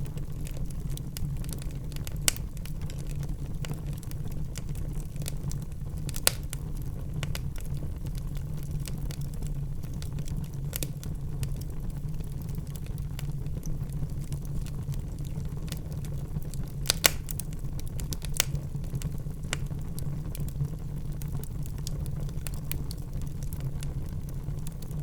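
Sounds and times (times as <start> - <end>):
fire crackling and popping: 0.0 - 25.0
low fire rumble: 0.0 - 25.0.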